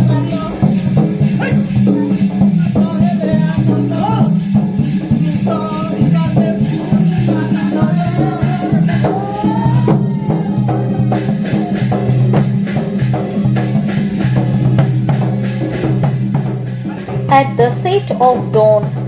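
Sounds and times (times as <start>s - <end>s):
percussion beat: 0.0s - 19.0s.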